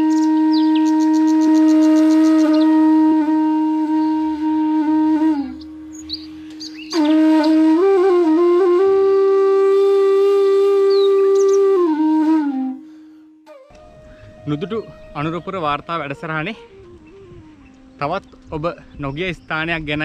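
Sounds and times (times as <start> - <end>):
flute-like long held notes: 0.0 - 18.6.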